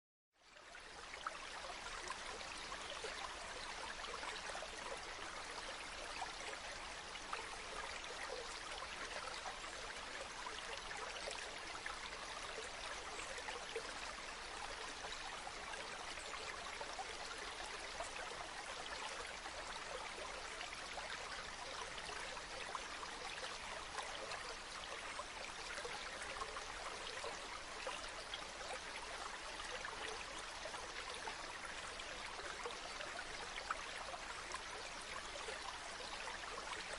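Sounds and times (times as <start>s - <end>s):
stream water flowing: 0.4s - 36.9s.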